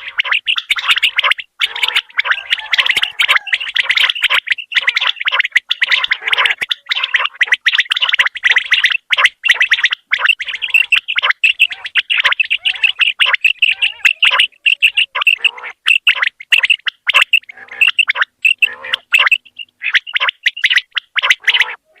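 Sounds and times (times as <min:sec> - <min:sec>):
quail calling: 0:00.0 - 0:22.0.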